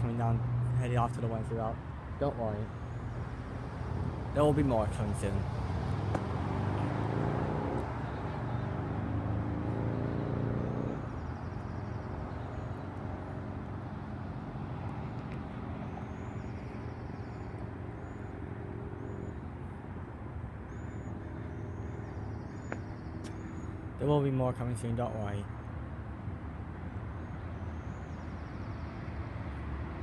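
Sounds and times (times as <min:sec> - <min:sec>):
passing vehicle engine hum: 0:00.0 - 0:24.1
road traffic rumble: 0:00.0 - 0:30.0.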